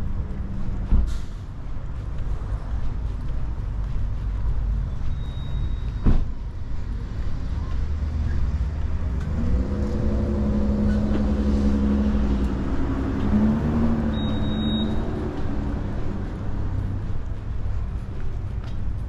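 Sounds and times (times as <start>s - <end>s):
low traffic rumble: 0.0s - 19.0s.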